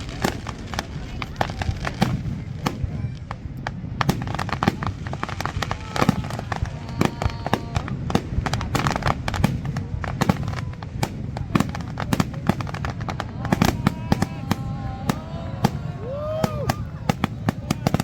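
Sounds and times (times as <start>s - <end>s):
fireworks cracking and banging: 0.0s - 18.0s.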